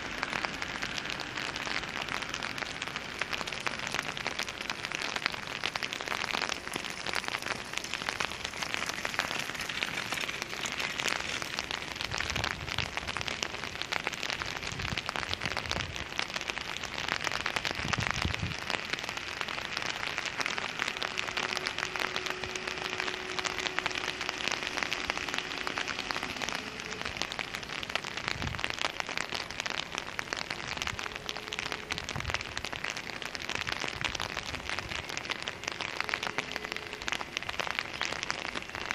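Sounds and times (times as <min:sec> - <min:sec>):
rain on an umbrella: 0:00.0 - 0:38.9.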